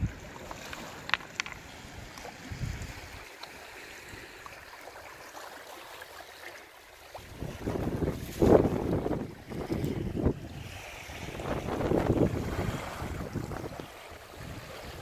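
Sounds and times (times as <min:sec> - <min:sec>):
seawater lapping among rocks: 0:00.0 - 0:15.0.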